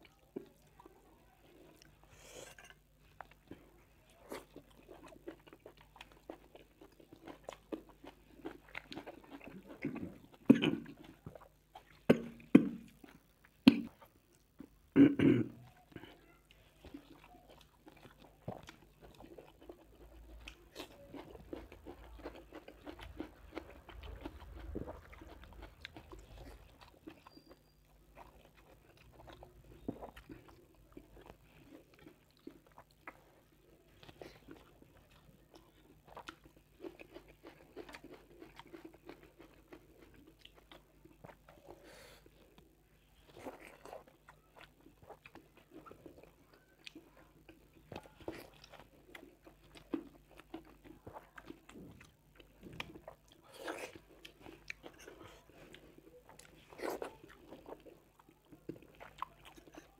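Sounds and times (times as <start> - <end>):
chewing and biting food: 0.0 - 14.8, 15.8 - 59.9.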